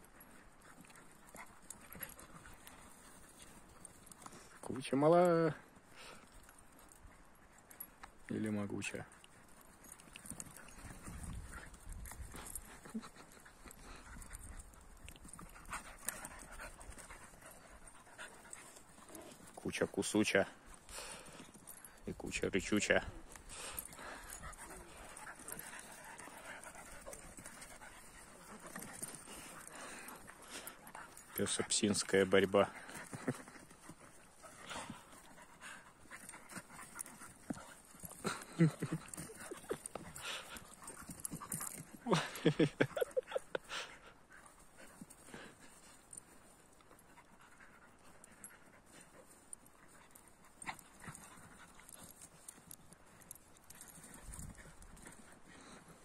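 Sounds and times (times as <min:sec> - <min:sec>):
dogs growling faintly: 0:05.5 - 0:56.0.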